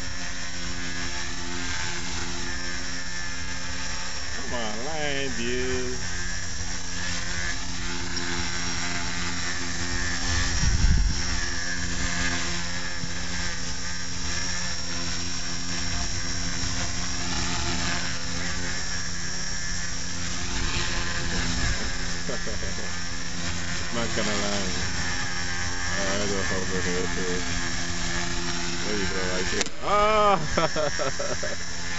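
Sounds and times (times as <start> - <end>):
rc helicopter whine: 0.0 - 31.9.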